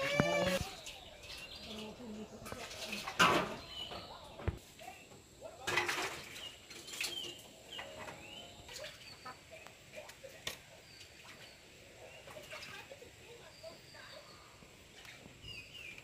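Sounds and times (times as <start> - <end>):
birds chirping: 0.0 - 5.2, 6.2 - 16.0.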